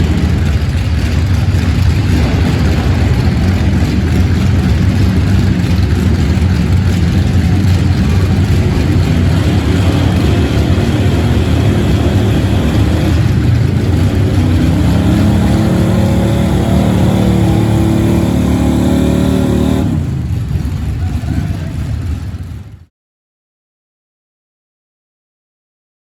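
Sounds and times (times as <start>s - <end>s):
truck engine at high revs: 0.0s - 22.8s.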